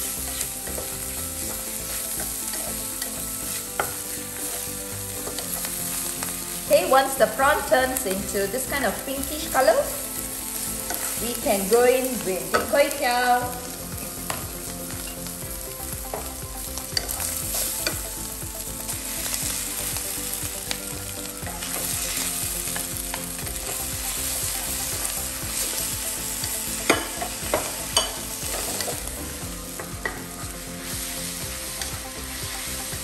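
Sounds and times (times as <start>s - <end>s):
food sizzling in frying pan: 0.0s - 33.0s.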